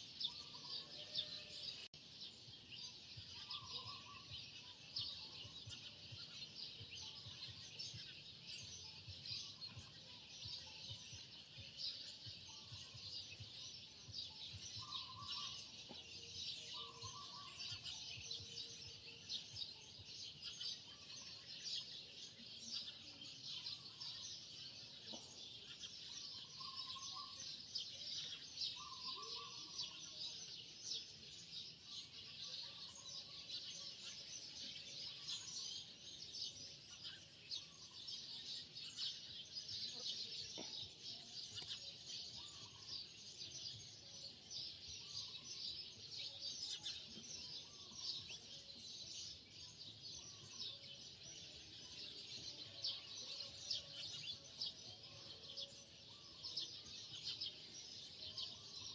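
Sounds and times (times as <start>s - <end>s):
many birds chirping: 0.0s - 58.9s.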